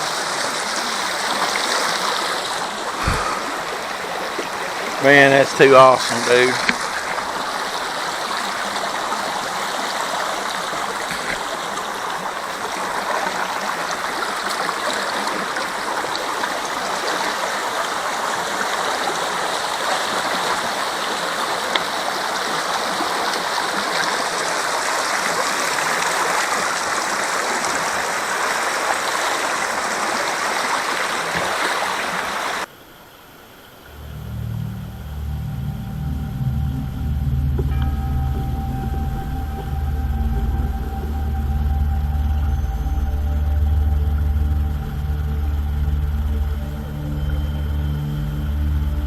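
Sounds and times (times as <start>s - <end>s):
water gurgling and splashing: 0.0s - 32.7s, 33.8s - 49.0s.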